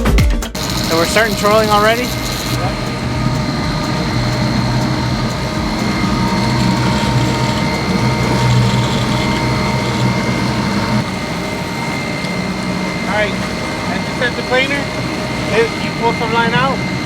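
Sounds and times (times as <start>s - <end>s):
boat engine droning: 0.5s - 17.0s
faint steady whine: 0.6s - 17.0s.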